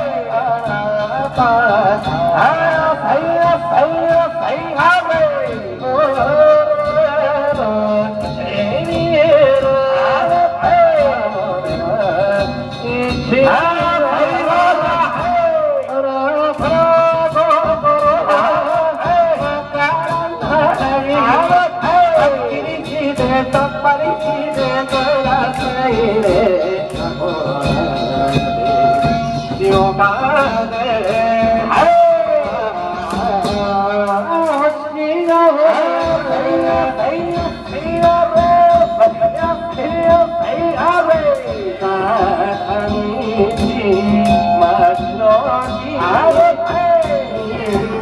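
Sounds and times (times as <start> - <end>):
sharp percussion strokes: 0.0 - 48.0.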